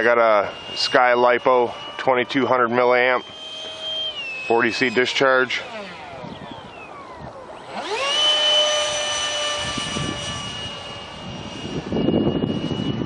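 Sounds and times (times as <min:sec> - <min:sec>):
electric ducted fan whining: 0:00.0 - 0:13.0.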